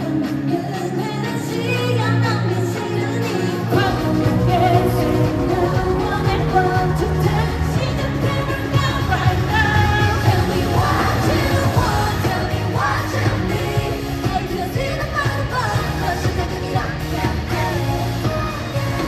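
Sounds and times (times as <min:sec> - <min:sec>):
pop concert music over pa: 0:00.0 - 0:19.0
women singing: 0:00.0 - 0:19.0.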